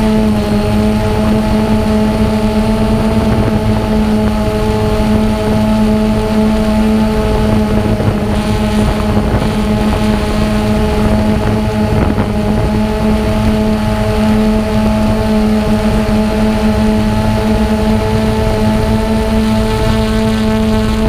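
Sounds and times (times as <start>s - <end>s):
quadcopter propellers humming: 0.0s - 21.0s
wind rumbling on microphone: 0.0s - 21.0s.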